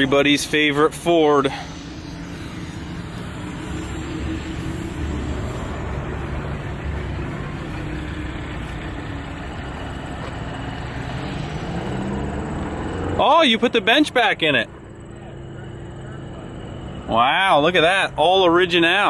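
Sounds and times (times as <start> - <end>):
vehicle engine idling low: 0.0 - 19.0.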